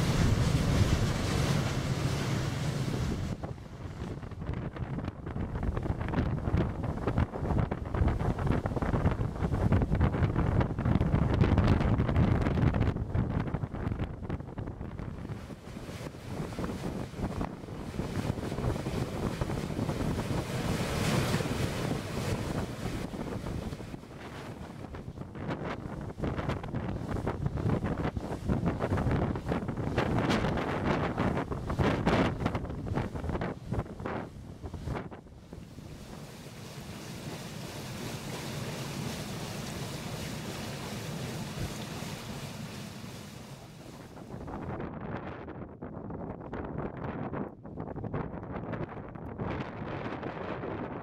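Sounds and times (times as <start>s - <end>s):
paddle wheel splashing water: 0.0s - 44.8s
wind buffeting microphone: 0.0s - 51.0s.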